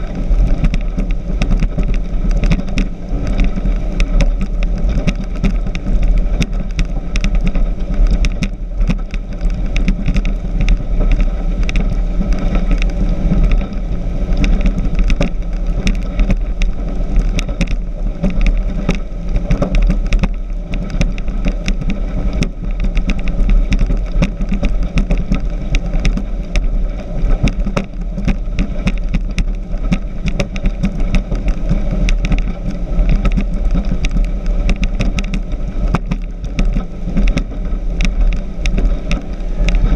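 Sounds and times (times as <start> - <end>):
rushing wind and water: 0.0 - 39.9
speedboat engine drone: 0.0 - 39.9.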